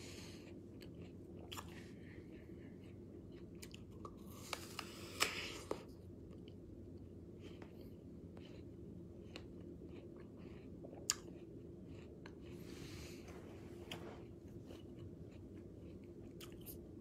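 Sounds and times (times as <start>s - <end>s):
quiet chewing: 0.0s - 17.0s.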